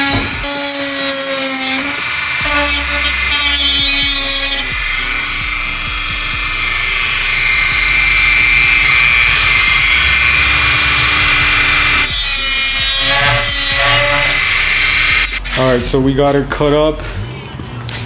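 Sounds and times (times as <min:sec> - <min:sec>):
rotary tool high whine: 0:00.0 - 0:15.7
gritty plastic cutting noise: 0:00.0 - 0:16.0.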